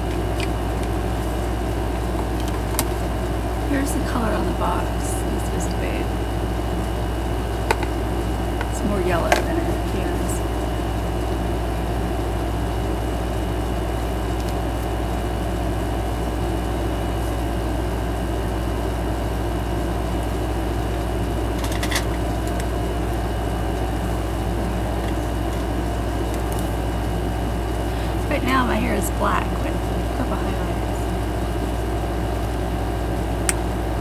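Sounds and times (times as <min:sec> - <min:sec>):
mechanical hum with hiss: 0:00.0 - 0:34.0.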